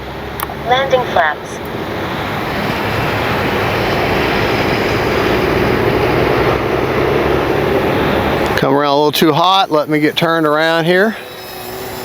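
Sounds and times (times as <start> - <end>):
rushing air noise: 0.0 - 12.0
model airplane motor droning: 0.8 - 12.0.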